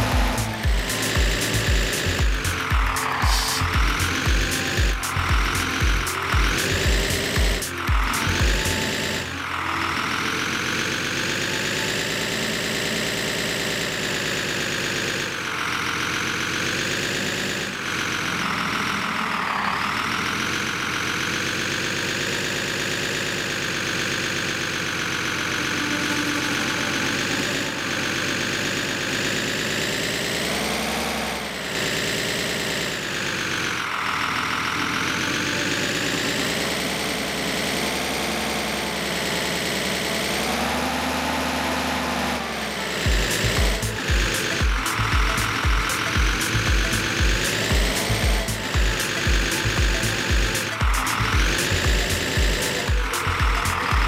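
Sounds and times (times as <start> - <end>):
model loader motor drone: 0.0 - 54.0.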